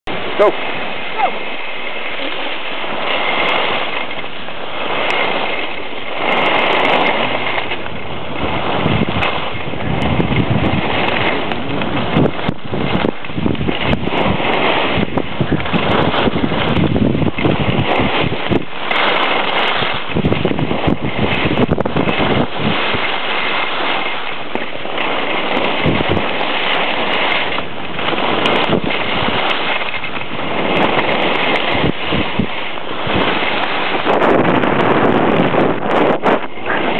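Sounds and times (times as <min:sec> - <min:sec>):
wind rushing over microphone: 0:00.0 - 0:36.9
skis scraping over snow: 0:00.1 - 0:36.9.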